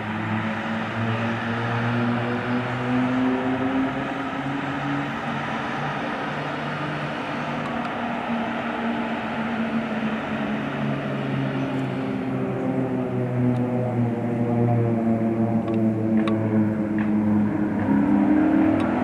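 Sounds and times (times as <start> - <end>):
propeller drone: 0.0 - 19.0
rushing engine noise: 0.0 - 19.0.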